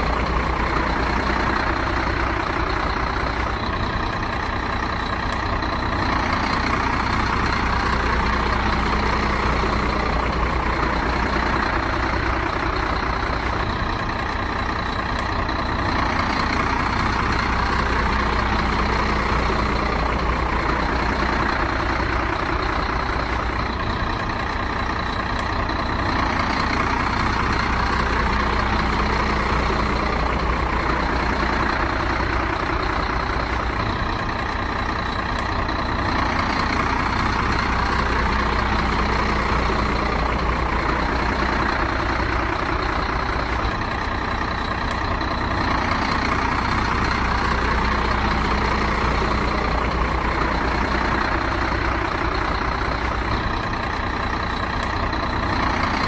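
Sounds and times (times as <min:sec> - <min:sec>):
heavy truck engine running: 0:00.0 - 0:56.0.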